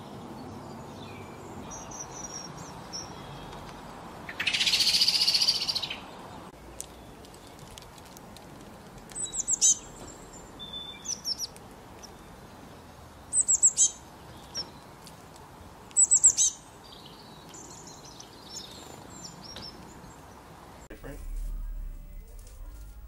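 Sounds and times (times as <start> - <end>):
songbird chirping: 0.0 - 23.0.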